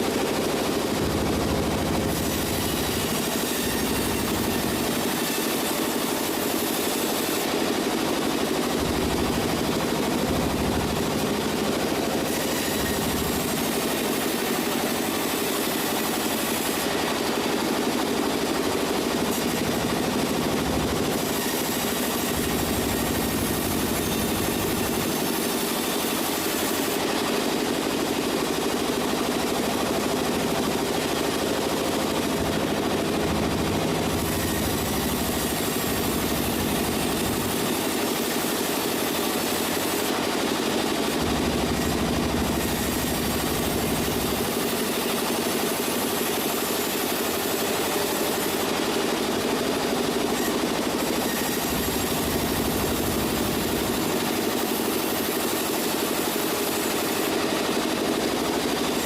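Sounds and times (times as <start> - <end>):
sawmill engine pulsing: 0.0 - 59.0.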